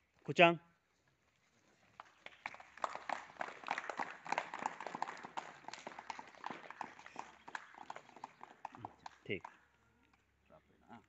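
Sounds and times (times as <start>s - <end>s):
small group clapping: 1.6s - 10.6s.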